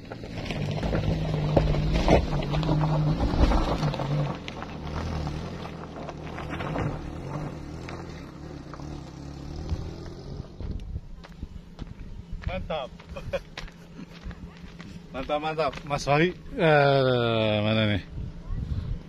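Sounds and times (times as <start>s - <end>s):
van engine climbing dirt slope: 0.0s - 19.0s.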